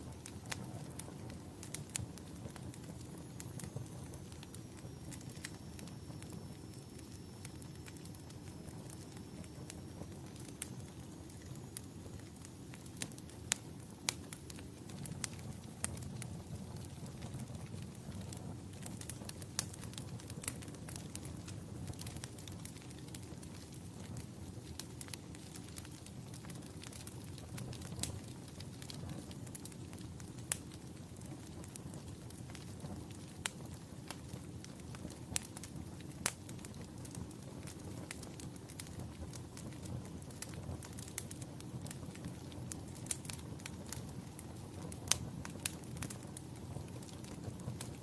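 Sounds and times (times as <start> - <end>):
sharp pops of fire: 0.0 - 48.0
wood fire crackling: 0.0 - 48.0.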